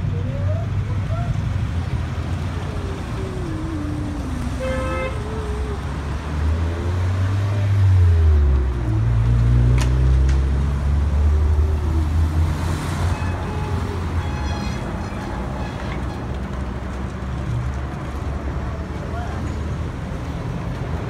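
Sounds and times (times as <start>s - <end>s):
cars driving past: 0.7s - 21.0s.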